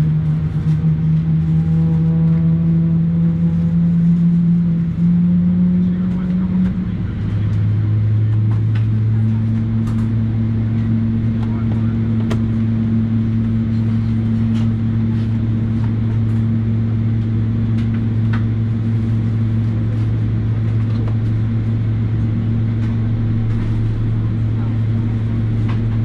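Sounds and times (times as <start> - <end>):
aircraft cabin drone: 0.0 - 26.0.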